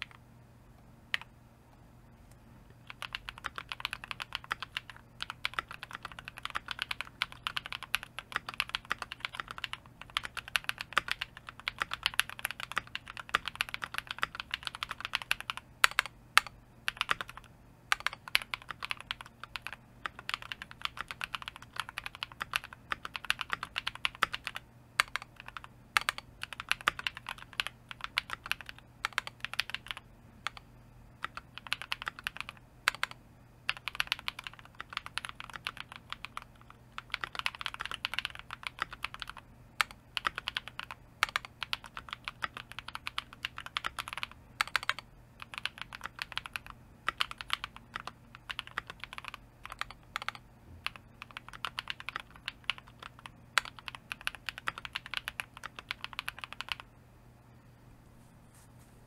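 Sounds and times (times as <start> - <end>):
mechanical keyboard typing: 0.0 - 0.2, 1.1 - 1.3, 2.8 - 30.6, 31.2 - 56.9.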